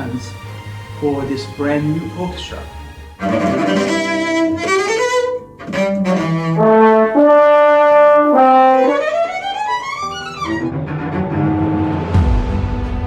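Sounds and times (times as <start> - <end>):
orchestral brass and strings: 0.0 - 13.0.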